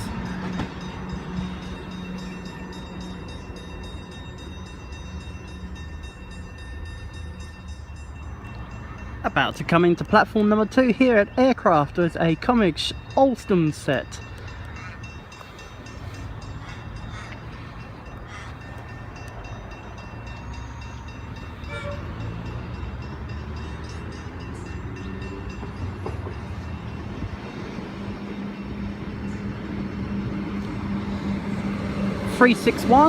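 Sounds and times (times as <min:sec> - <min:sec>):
train rail rumble: 0:00.0 - 0:33.0.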